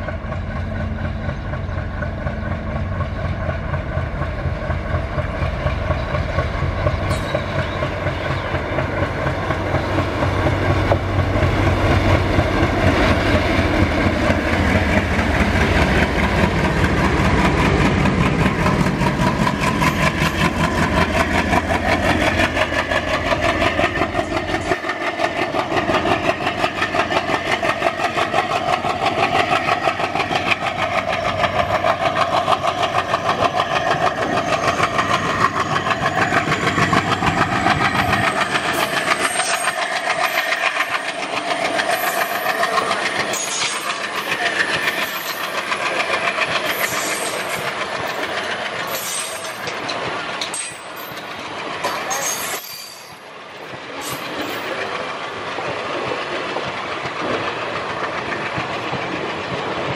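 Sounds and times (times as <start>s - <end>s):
diesel locomotive engine under load: 0.0s - 59.9s
train wheels clacking over rail joints: 0.0s - 59.9s.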